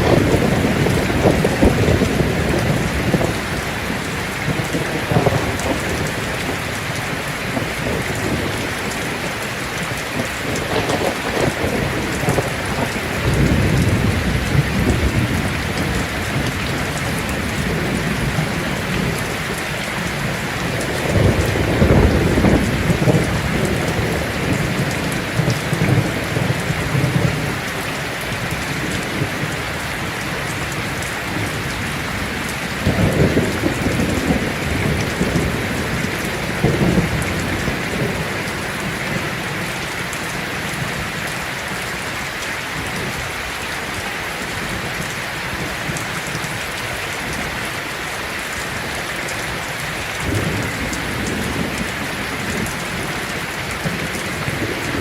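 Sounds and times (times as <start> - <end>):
thunder rumbling: 0.0 - 41.8, 49.4 - 55.0
heavy rain on a tin roof: 0.0 - 55.0.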